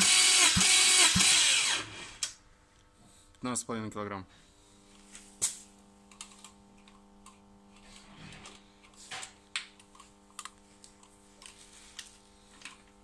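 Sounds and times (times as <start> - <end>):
low electrical hum: 1.5 - 13.0.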